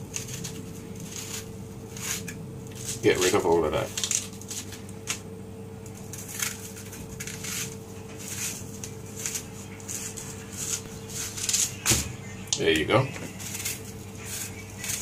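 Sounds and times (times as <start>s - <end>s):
knife scraping onion skin: 0.0s - 5.2s, 5.8s - 12.1s, 13.3s - 15.0s
steady low hum: 0.0s - 15.0s.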